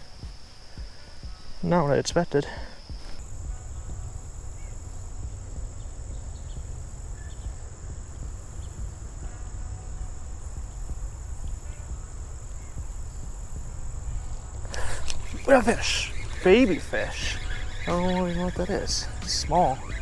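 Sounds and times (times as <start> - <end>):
insects trilling: 0.0 - 20.0
pulsing insect chirps: 0.0 - 20.0.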